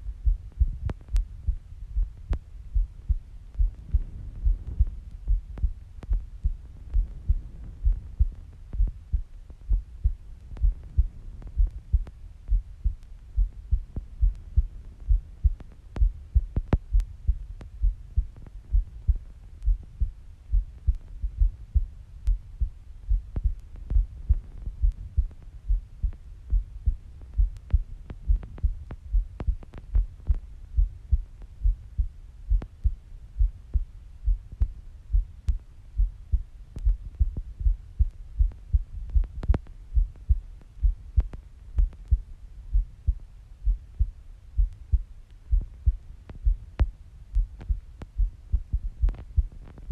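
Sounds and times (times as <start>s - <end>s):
heartbeat thumps: 0.0s - 49.9s.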